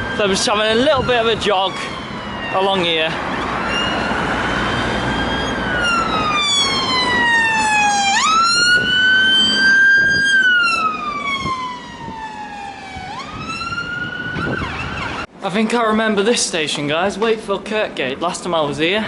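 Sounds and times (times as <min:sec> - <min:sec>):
emergency vehicle siren wailing: 0:00.0 - 0:15.3.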